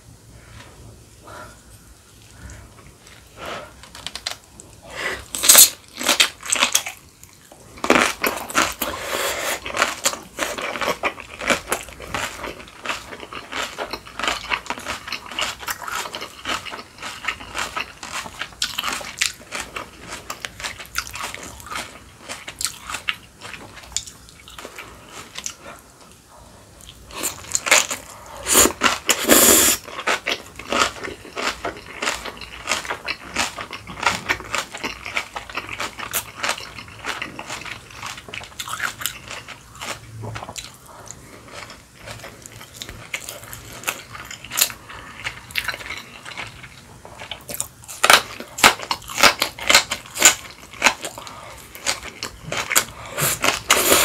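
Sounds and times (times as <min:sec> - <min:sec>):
person chewing crunchy food: 0:02.1 - 0:54.0.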